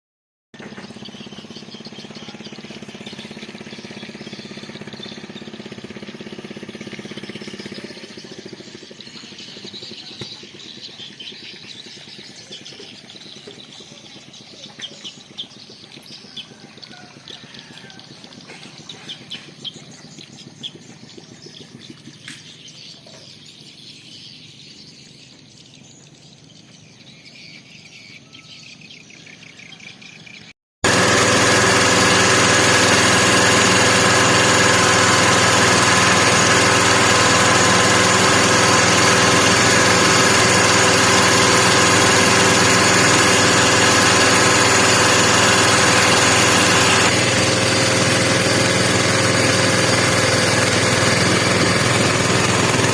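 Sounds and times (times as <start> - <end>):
birds chirping: 0.6 - 52.9
small boat engine running: 0.6 - 52.9.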